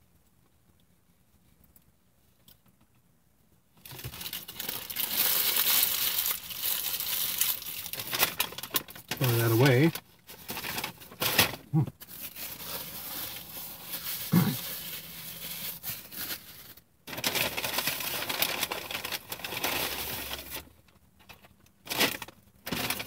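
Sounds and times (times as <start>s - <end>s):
paper bag rustling and crinkling: 3.8s - 23.0s.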